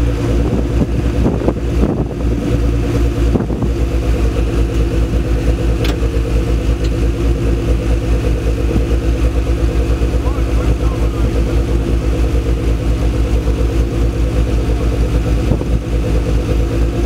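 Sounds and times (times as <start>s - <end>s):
sports car engine idling: 0.0s - 17.0s.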